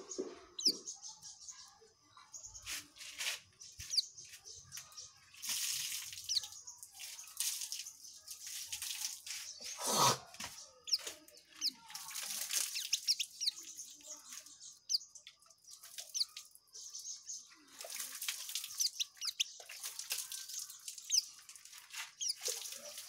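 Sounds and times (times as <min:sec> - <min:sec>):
bird chattering song: 0:00.0 - 0:05.3, 0:06.2 - 0:08.3, 0:09.2 - 0:23.0.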